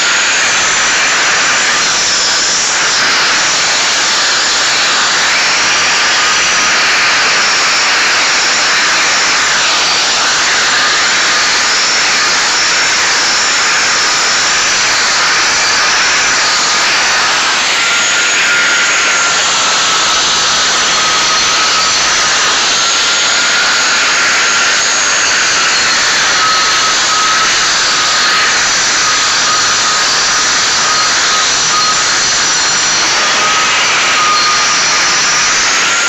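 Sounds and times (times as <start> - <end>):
power sander grinding concrete: 0.0 - 36.0.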